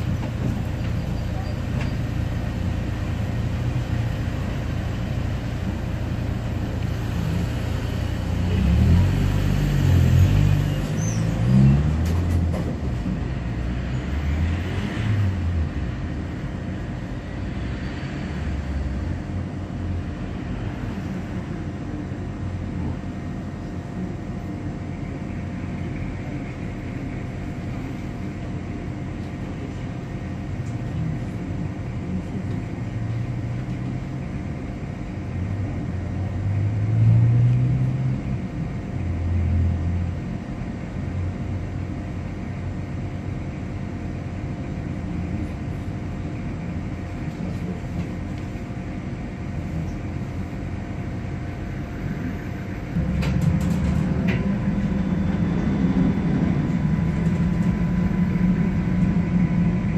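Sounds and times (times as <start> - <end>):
low engine drone: 0.0 - 59.9
road traffic passing: 0.0 - 59.9
tram interior rumble: 0.0 - 59.9.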